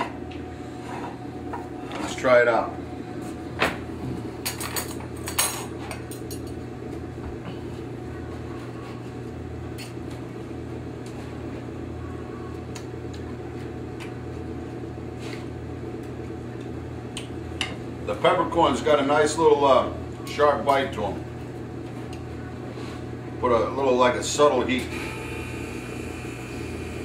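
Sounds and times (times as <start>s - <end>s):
low kitchen hum: 0.0s - 27.0s.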